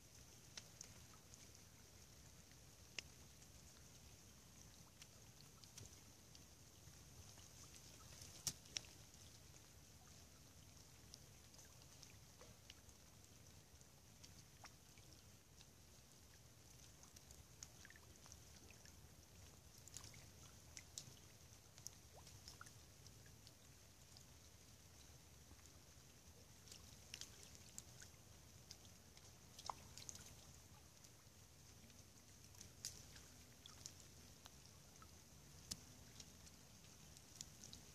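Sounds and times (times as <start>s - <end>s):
tiny ticks: 0.1s - 37.9s.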